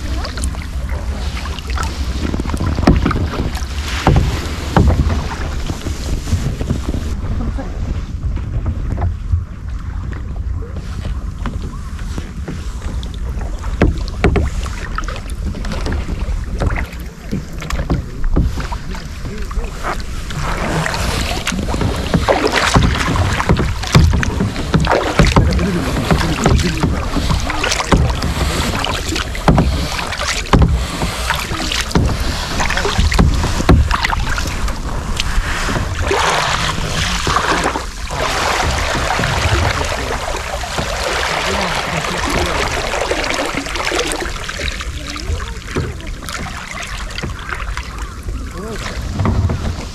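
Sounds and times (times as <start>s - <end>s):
paddle splashing in water: 0.0s - 49.9s
water rushing along hull: 0.0s - 49.9s
wind on microphone: 0.0s - 49.9s.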